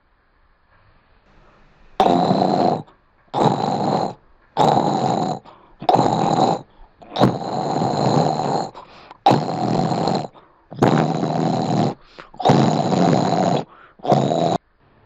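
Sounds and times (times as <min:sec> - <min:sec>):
person snoring loudly: 0:02.0 - 0:14.6.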